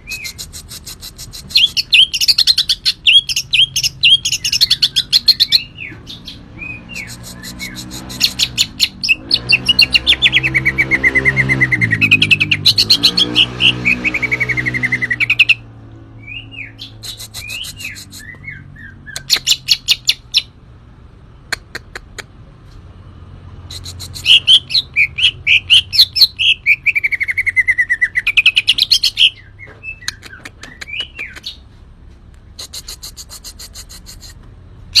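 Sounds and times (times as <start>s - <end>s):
bird singing trills: 0.0s - 20.6s, 23.7s - 31.6s.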